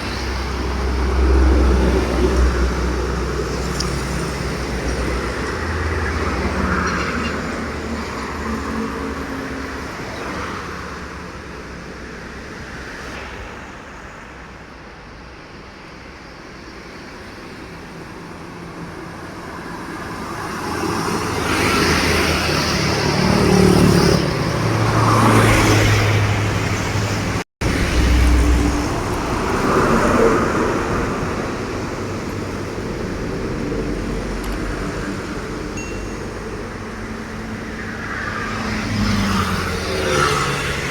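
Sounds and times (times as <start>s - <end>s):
trucks driving past: 0.0s - 40.9s.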